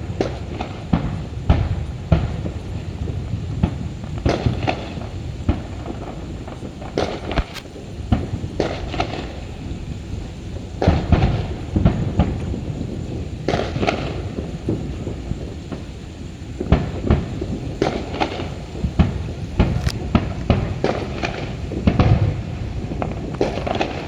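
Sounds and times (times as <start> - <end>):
firework shells bursting: 0.0 - 24.0.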